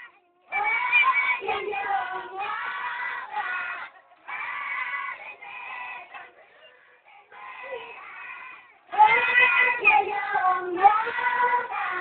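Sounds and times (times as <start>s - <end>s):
crowd chanting together: 0.0s - 12.0s.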